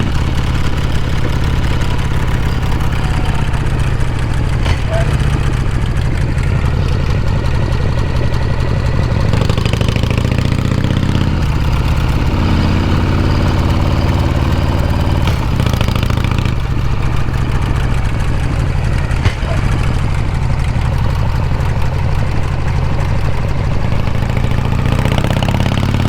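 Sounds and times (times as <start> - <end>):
motorcycle exhaust running: 0.0 - 26.0.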